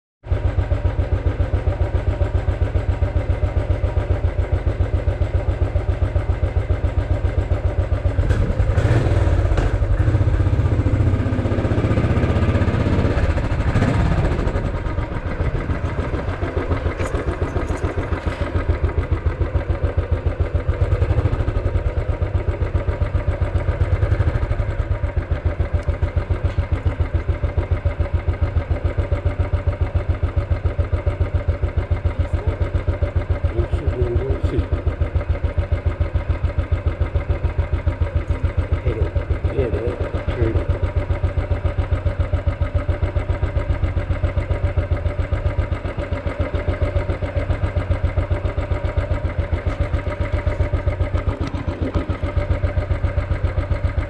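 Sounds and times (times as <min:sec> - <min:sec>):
motorcycle engine running: 0:00.2 - 0:54.0.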